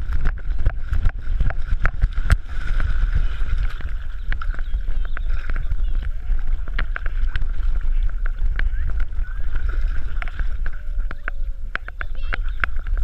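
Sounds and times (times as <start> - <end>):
heavy low rumble: 0.0 - 13.0
splashy clicks: 0.0 - 13.0
water sloshing and splashing: 0.0 - 13.0.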